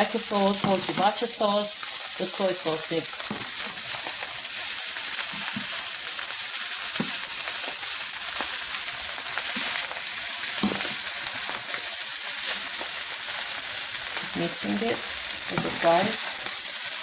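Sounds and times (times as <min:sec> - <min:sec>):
rice sizzling in hot oil: 0:00.0 - 0:17.0.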